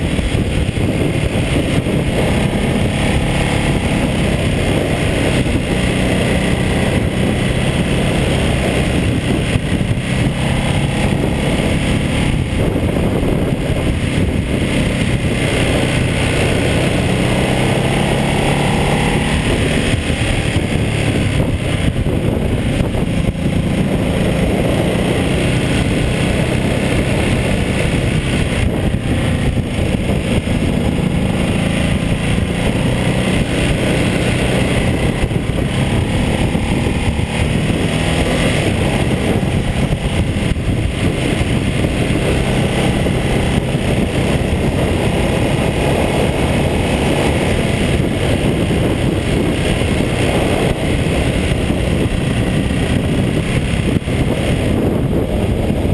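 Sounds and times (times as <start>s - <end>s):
motorcycle engine running: 0.0s - 55.9s
wind rushing over camera: 0.0s - 55.9s.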